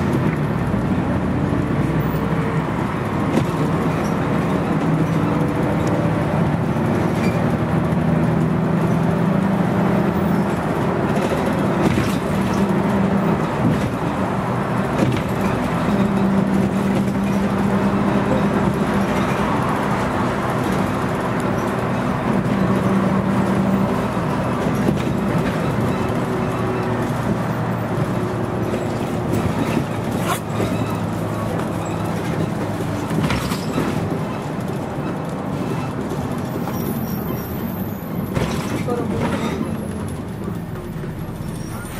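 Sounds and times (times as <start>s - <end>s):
bus body rattle: 0.0s - 41.9s
bus diesel engine running: 0.0s - 41.9s
road noise: 0.0s - 41.9s.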